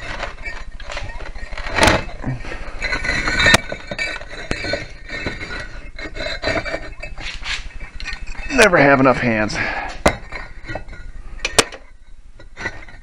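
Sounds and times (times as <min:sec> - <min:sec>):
bricks knocking and scraping: 0:00.0 - 0:13.0.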